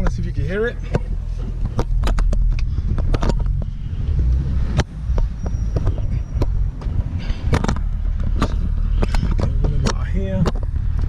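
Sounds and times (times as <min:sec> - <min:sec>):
car engine low rumble: 0:00.0 - 0:11.0
sharp clicks and knocks: 0:00.9 - 0:11.0.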